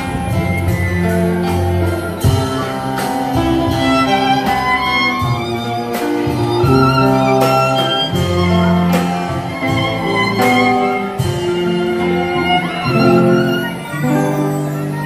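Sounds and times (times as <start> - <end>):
cello: 0.0 - 15.0
upright bass notes: 0.0 - 15.0
violin melody: 0.0 - 15.0.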